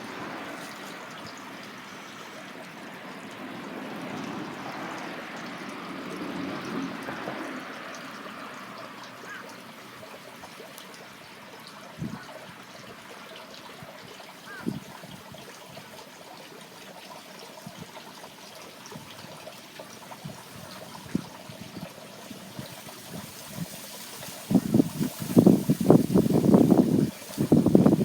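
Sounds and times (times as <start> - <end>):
water running in a channel: 0.0 - 28.0.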